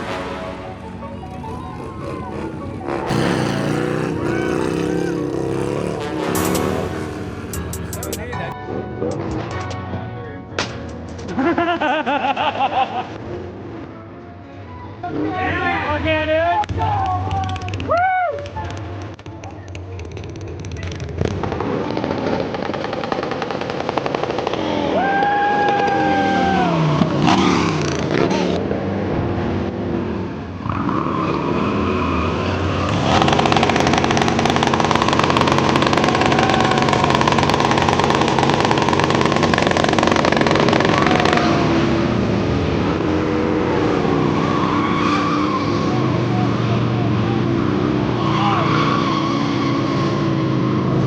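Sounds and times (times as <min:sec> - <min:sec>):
motorcycle engines revving: 0:00.0 - 0:09.8, 0:15.0 - 0:51.0.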